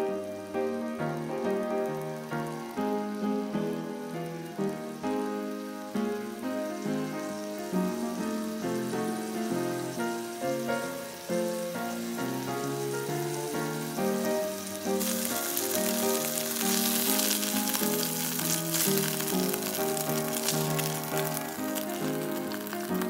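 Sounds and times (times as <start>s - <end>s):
background music with melody: 0.0s - 23.0s
food sizzling in a frying pan: 0.0s - 23.0s.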